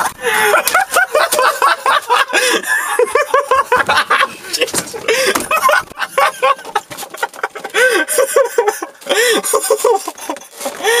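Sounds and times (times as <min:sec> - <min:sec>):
people laughing hard: 0:00.0 - 0:11.0.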